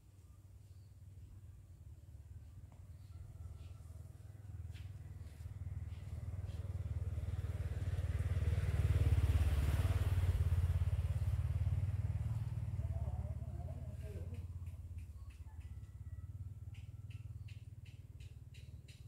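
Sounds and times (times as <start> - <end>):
vehicle engine rumble passing: 2.3 - 19.0.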